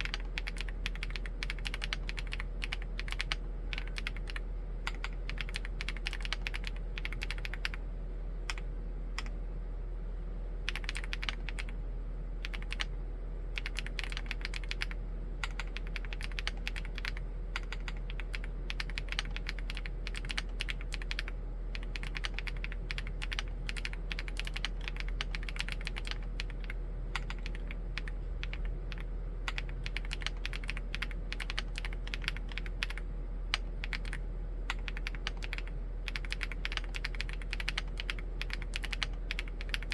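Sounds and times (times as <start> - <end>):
typing on mechanical keyboard: 0.0 - 7.8, 10.7 - 11.7, 12.4 - 12.9, 13.6 - 39.9
faint steady hum: 0.0 - 39.9.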